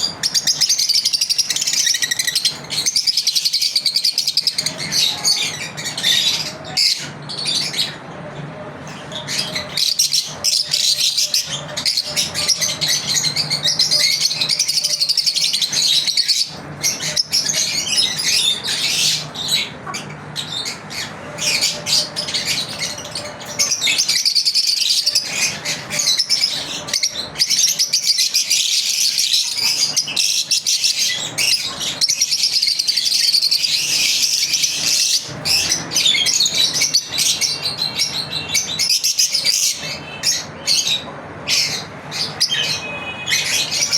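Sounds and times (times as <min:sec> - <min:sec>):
lovebirds chirping: 0:00.0 - 0:43.9.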